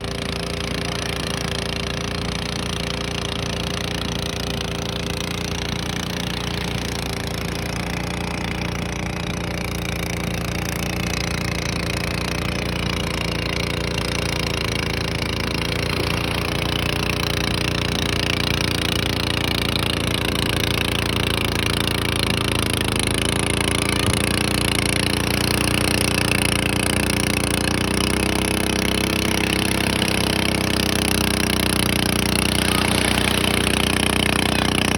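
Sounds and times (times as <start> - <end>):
small engine running: 0.0 - 34.9.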